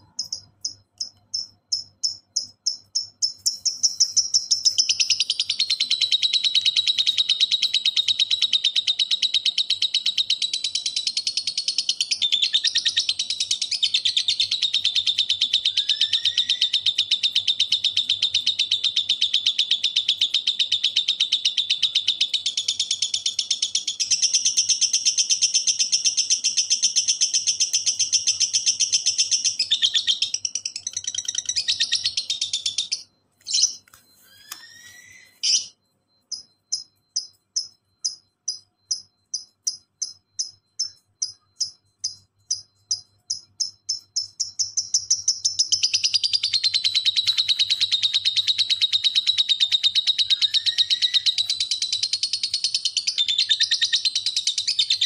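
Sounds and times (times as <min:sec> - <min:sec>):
bird chattering trill: 0:00.0 - 0:55.0.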